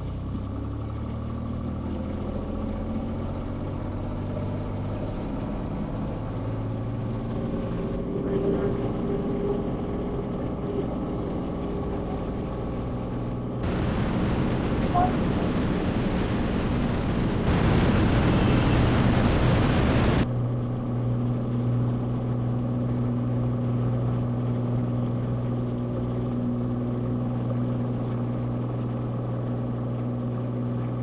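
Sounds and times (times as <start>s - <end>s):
small airplane engine and propeller: 0.0s - 31.0s.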